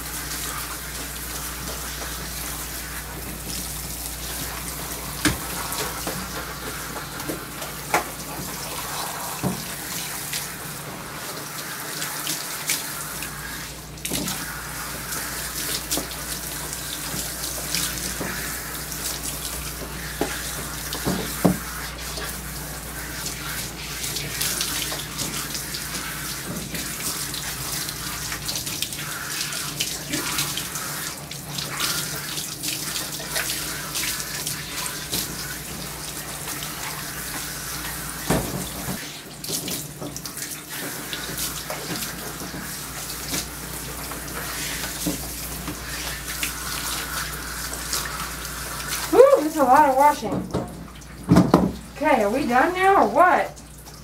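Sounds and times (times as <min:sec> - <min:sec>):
water spraying on dog's coat: 0:00.0 - 0:50.3.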